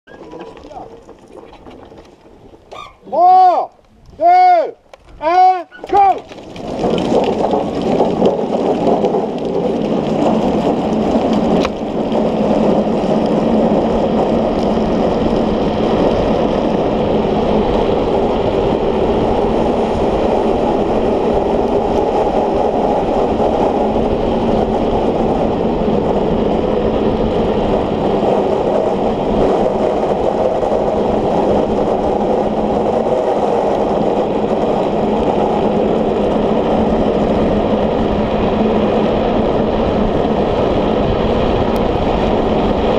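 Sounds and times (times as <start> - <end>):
wheels rolling on asphalt: 0.0 - 42.9
wind noise: 0.1 - 42.9.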